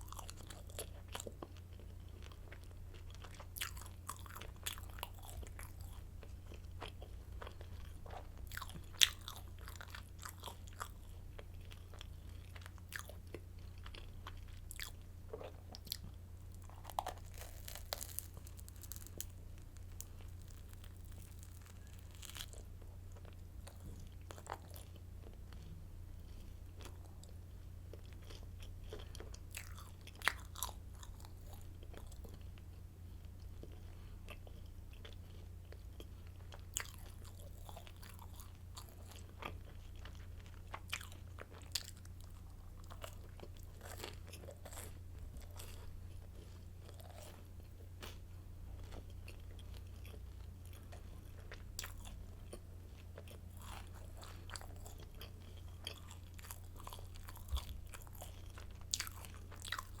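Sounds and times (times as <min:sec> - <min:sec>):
crunchy bread being chewed: 0:00.0 - 1:00.0
steady low hum: 0:00.0 - 1:00.0.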